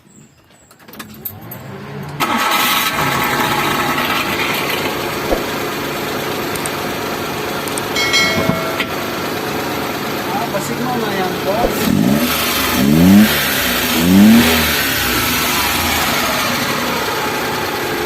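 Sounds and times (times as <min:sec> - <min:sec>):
vehicle engine starting and running: 0:00.8 - 0:18.0
high engine whine: 0:02.0 - 0:18.0.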